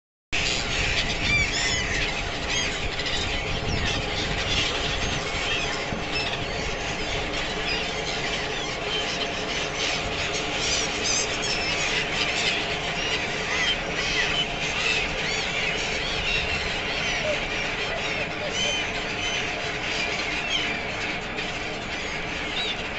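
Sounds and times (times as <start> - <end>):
gulls calling: 0.4 - 22.9.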